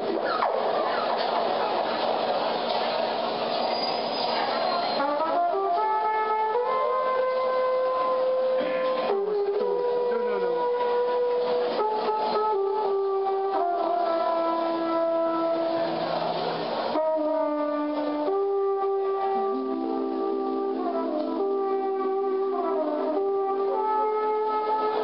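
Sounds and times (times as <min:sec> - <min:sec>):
trumpet playing long notes: 0:04.4 - 0:25.0.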